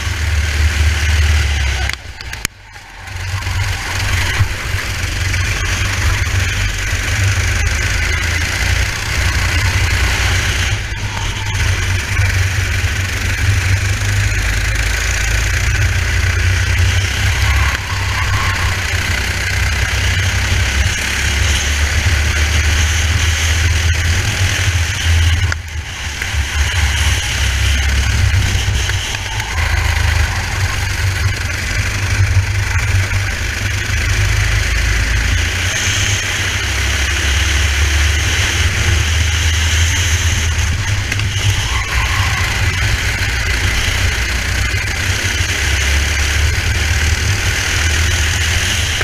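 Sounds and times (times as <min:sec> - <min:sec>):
kart engine running hard: 0:00.0 - 0:49.0.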